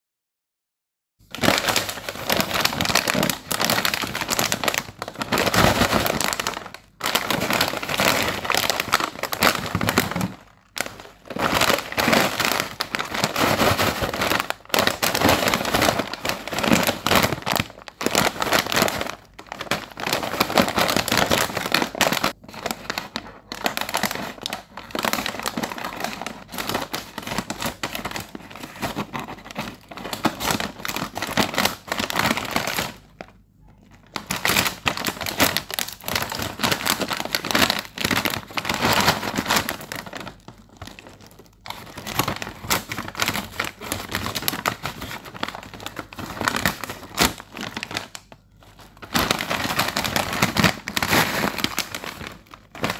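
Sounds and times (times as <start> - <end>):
plastic packets crinkling: 1.3 - 52.9.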